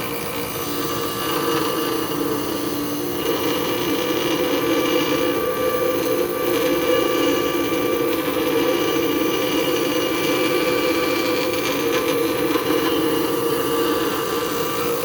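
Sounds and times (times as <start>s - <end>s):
bench grinder grinding metal: 0.0s - 15.0s.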